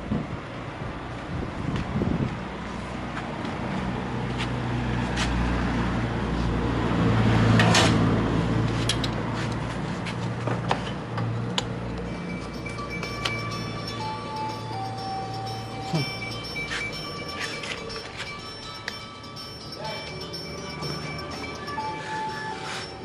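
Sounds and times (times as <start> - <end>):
vehicle engine humming: 0.4 - 23.0.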